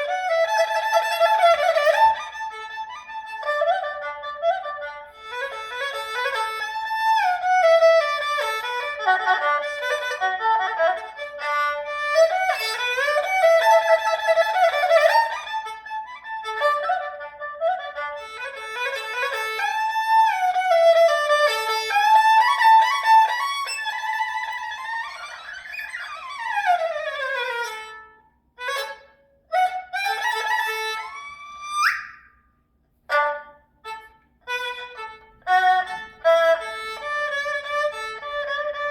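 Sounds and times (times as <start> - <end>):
erhu melody with pitch slides: 0.0 - 32.5, 33.1 - 38.9.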